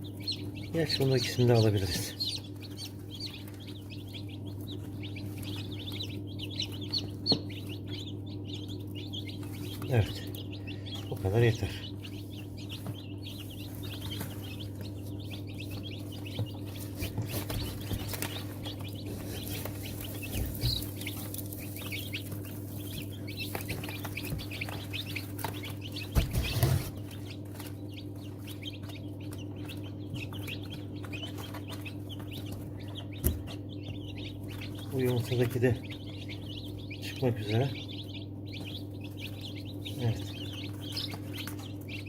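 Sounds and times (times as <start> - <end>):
chicks peeping: 0.0 - 42.0
steady low hum: 0.0 - 42.0.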